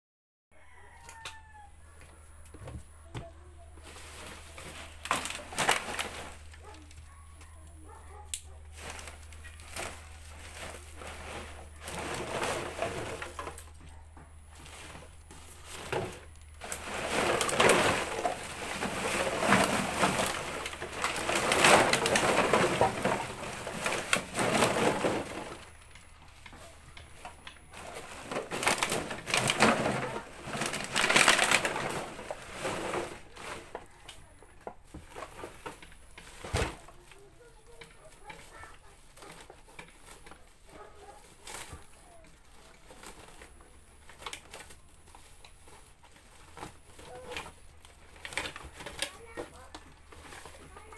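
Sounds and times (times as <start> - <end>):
plastic bottles clattering and crinkling: 2.5 - 50.9.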